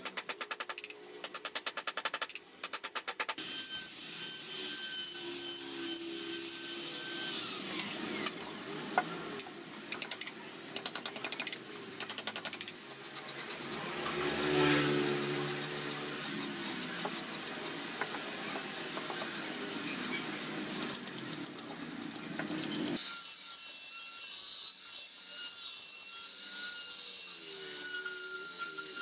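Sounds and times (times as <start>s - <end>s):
rotary tool whining: 3.4s - 24.5s, 25.6s - 29.0s.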